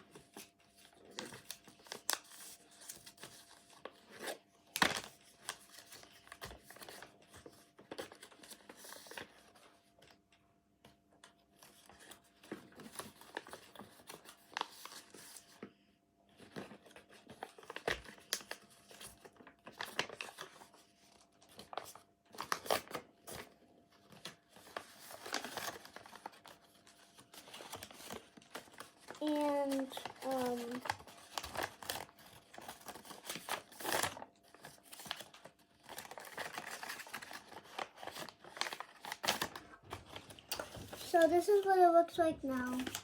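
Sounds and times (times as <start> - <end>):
paper rustling and crinkling: 0.0 - 10.2, 11.2 - 43.0.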